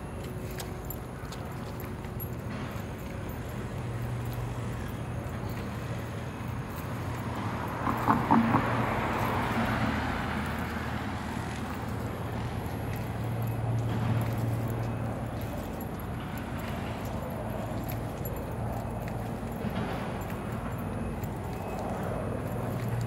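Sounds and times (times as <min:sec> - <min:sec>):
low hum of traffic: 0:00.0 - 0:23.0
car passing: 0:03.4 - 0:23.0.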